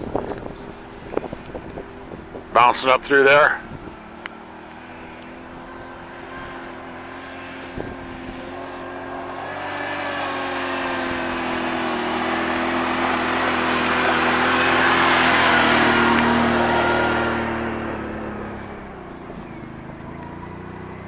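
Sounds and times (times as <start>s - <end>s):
off-road vehicle engine: 0.0s - 21.0s.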